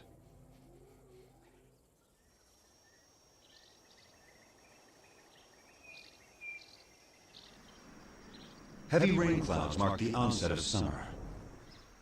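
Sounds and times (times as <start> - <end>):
high insect drone: 2.0 - 12.0.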